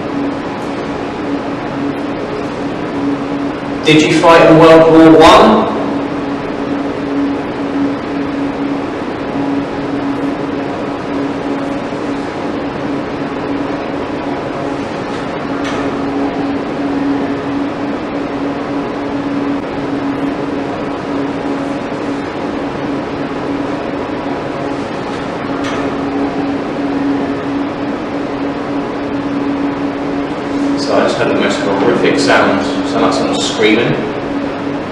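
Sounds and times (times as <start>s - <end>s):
low hum: 0.0s - 34.9s.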